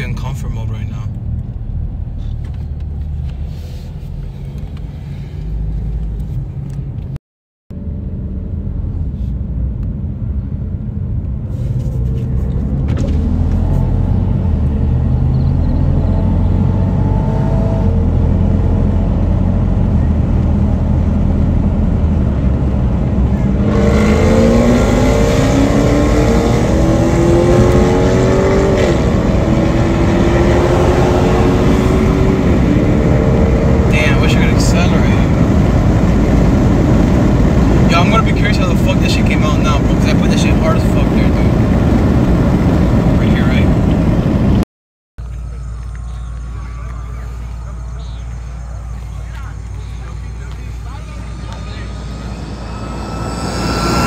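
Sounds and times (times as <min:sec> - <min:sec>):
car engine accelerating: 0:00.0 - 0:44.6, 0:45.2 - 0:54.0.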